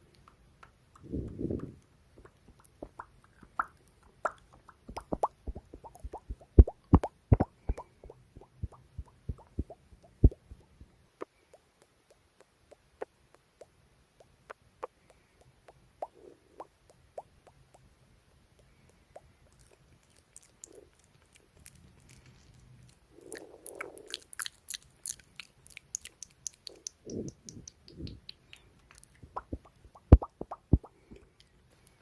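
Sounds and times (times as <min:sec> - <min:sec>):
mouth clicks: 0:00.0 - 0:22.2, 0:22.8 - 0:32.0.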